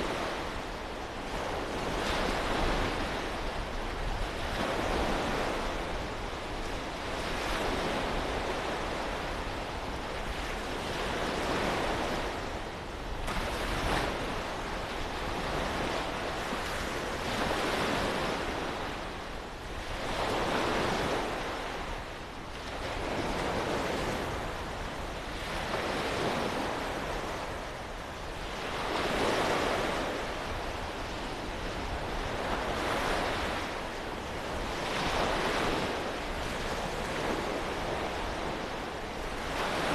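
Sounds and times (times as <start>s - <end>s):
waves breaking on a beach: 0.0s - 39.9s
wind rumbling on microphone: 0.0s - 39.9s.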